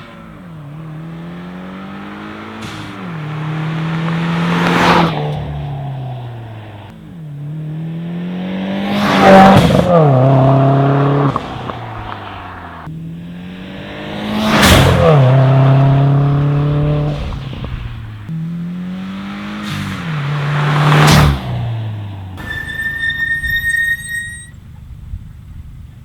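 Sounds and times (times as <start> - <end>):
car driving past: 0.0 - 24.5.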